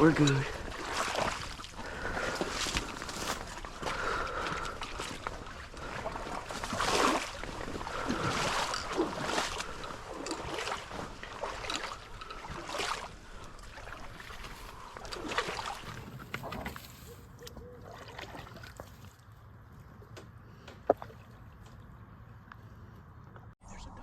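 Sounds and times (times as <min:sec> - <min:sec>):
water sloshing and swishing: 0:00.0 - 0:22.4.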